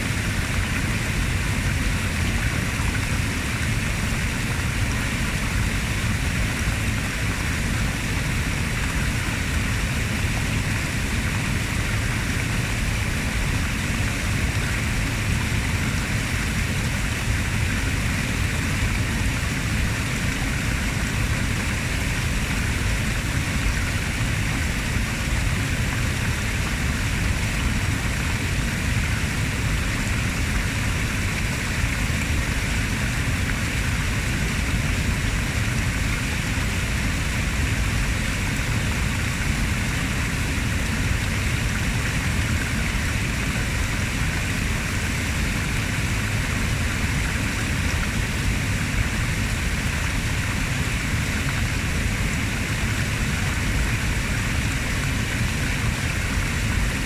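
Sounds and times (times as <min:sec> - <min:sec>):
waterfall splashing over stone: 0:00.0 - 0:57.0.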